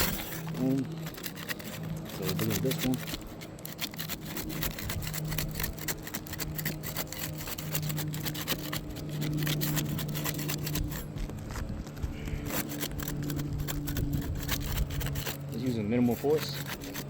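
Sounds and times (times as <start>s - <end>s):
putty knife scraping shingle: 0.0s - 11.2s, 12.2s - 17.0s
steady low hum: 0.0s - 17.0s.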